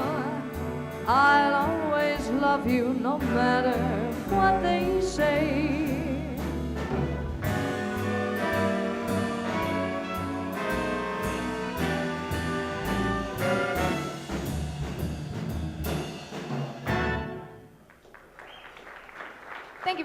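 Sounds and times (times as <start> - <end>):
swing band playing a ballad: 0.0 - 17.7.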